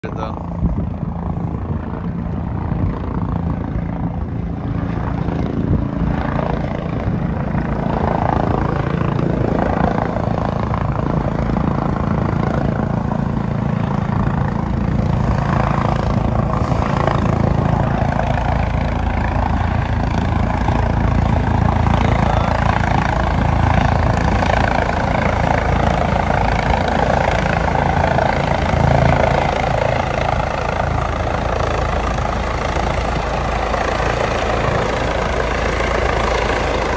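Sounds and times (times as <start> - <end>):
helicopter rotor and engine: 0.0 - 36.9.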